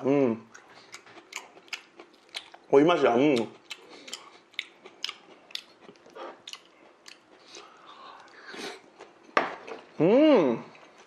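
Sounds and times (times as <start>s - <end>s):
chewing crisp lettuce: 0.5s - 10.0s.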